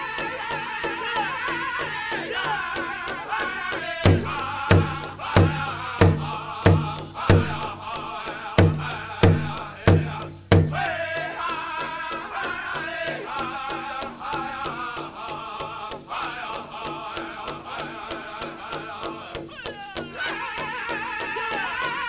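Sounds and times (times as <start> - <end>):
big drum beating: 0.0 - 22.0
drum group singing: 0.0 - 22.0.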